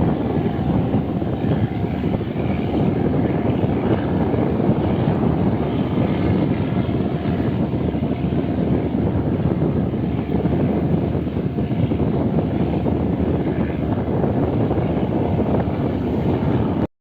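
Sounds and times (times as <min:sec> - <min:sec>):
tugboat engine running: 0:00.0 - 0:16.9
wind buffeting microphone: 0:00.0 - 0:16.9.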